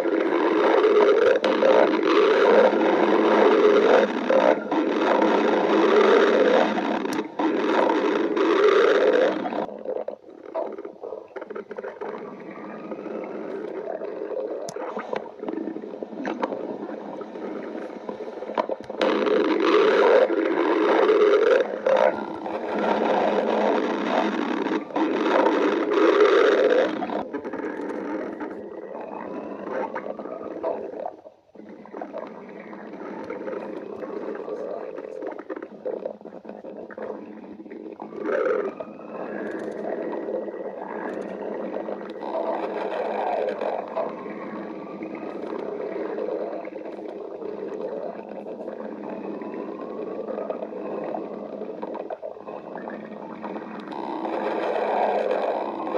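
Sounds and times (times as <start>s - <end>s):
stomach growling: 0.0s - 55.9s.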